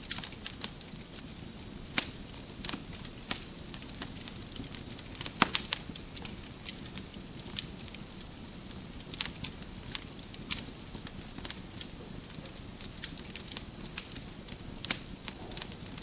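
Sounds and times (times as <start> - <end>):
burning logs hissing: 0.0 - 16.0
wood fire crackling: 0.0 - 16.0.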